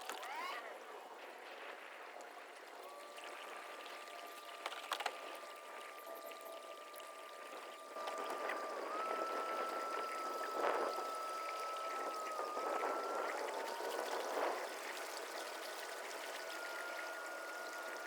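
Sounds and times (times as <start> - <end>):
faint steady whine: 0.0 - 18.0
water splashing along hull: 1.0 - 18.0.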